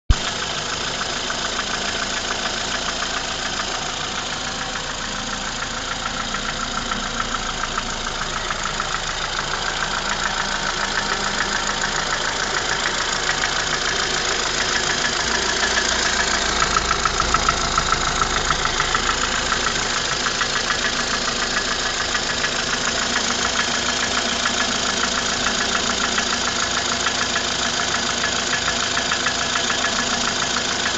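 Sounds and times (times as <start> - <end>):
car engine idling: 0.1 - 30.9
rapid engine knock ticking: 0.1 - 30.9.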